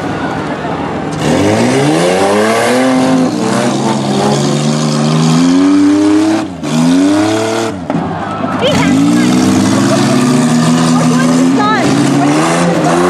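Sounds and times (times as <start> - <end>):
car engine revving hard: 1.1 - 7.9, 8.6 - 13.0.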